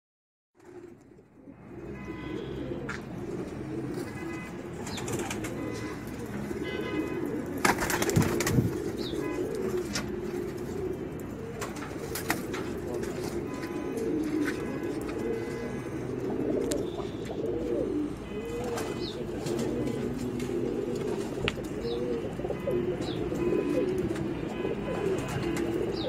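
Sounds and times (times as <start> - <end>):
pigeons cooing: 0.6 - 26.0.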